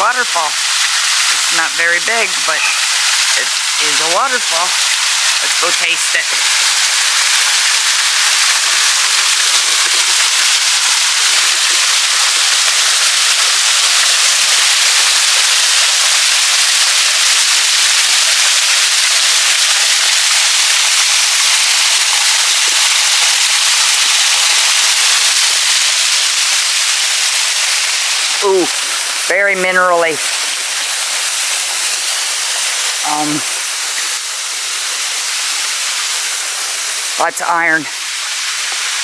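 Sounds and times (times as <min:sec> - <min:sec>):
small waterfall splashing: 0:00.0 - 0:39.0.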